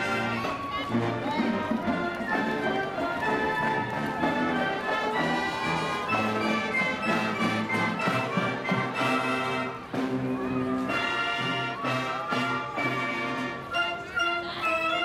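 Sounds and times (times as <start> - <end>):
brass instruments playing melody: 0.0 - 15.0.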